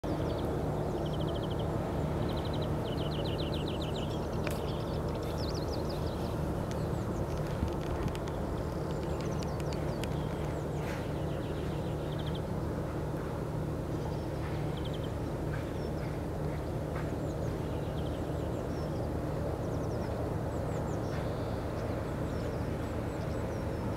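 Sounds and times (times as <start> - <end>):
steady low drone: 0.0 - 23.9.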